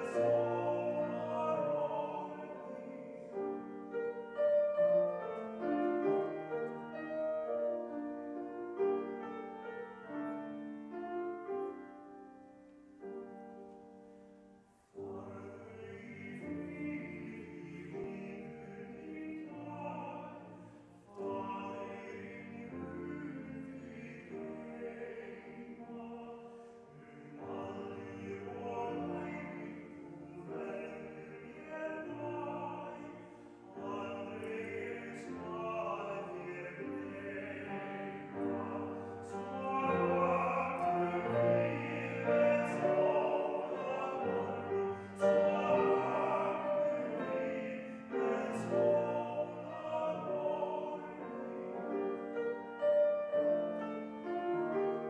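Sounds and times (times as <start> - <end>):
small choir singing: 0.0 - 12.1, 15.0 - 55.0
piano accompaniment: 0.0 - 55.0.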